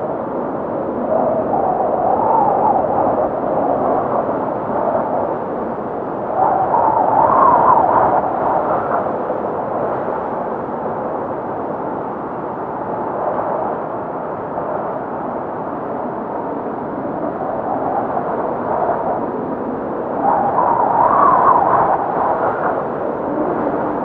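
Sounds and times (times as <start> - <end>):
blizzard wind howling: 0.0 - 24.0.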